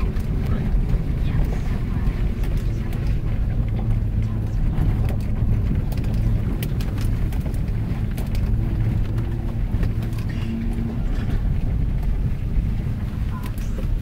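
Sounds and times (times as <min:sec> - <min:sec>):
car engine and tyre rumble: 0:00.0 - 0:14.0
gravel clicks and ticks: 0:00.0 - 0:14.0.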